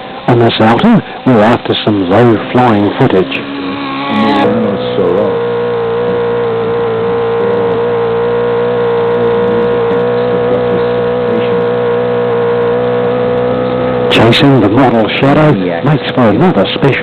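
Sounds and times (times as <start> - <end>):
model airplane engine running: 0.0 - 17.0.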